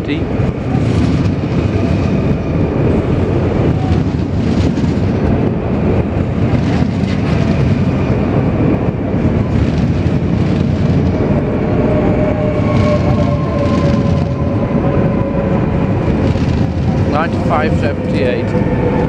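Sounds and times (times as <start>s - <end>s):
faint train whine: 0.0s - 19.0s
train wheels rumbling on rail: 0.0s - 19.0s.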